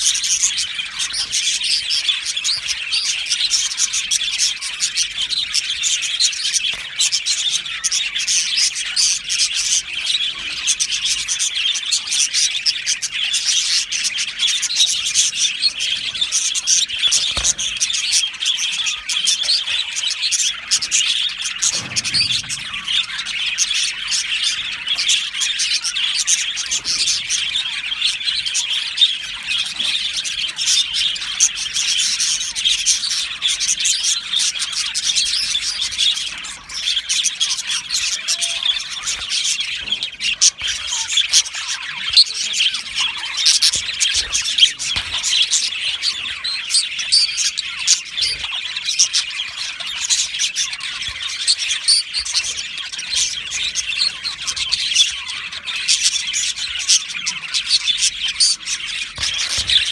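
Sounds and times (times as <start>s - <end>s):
bird squawks: 0.0s - 59.9s
budgerigars chirping and warbling: 0.0s - 59.9s.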